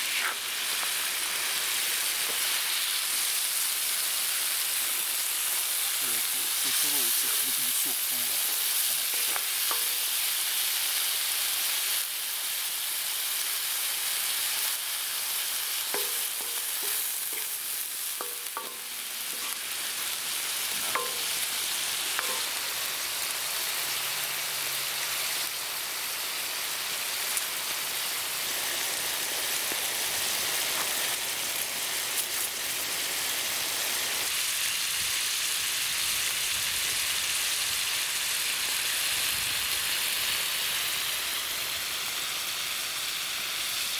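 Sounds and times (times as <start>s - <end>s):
meat sizzling on hot disc: 0.0s - 43.9s.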